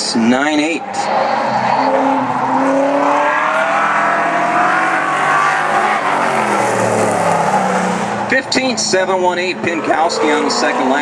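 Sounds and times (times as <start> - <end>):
race car engine accelerating: 0.8 - 11.0.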